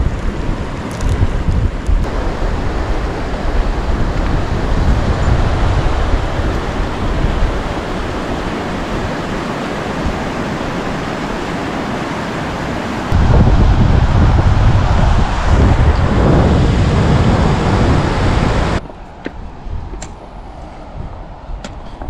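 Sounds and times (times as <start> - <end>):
wind blowing across microphone: 0.0 - 22.0.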